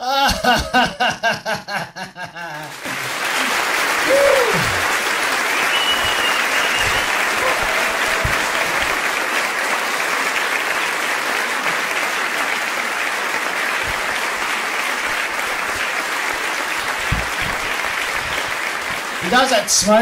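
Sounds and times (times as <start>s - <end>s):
crowd applauding: 2.5s - 20.0s.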